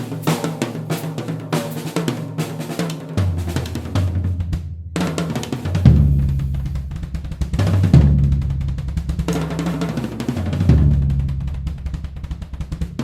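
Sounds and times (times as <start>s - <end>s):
drum kit playing: 0.0s - 13.0s.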